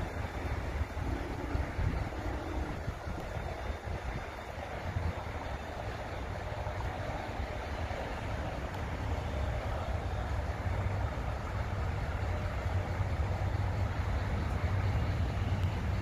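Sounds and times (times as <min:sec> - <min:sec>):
freight train rumbling on rails: 0:00.0 - 0:16.0
wind buffeting microphone: 0:00.0 - 0:16.0.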